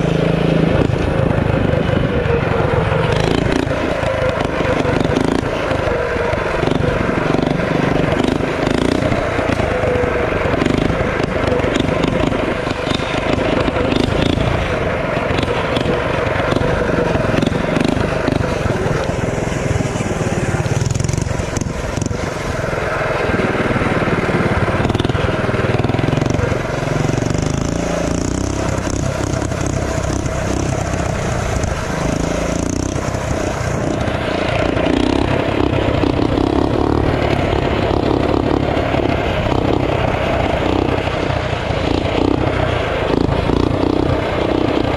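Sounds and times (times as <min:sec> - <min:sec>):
small motorbike engine running: 0:00.0 - 0:44.9.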